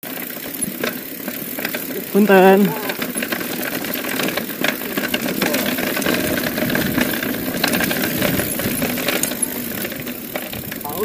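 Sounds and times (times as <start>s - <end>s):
bike rattling over bumps: 0.0s - 11.0s
bike tyres on dirt: 0.0s - 11.0s.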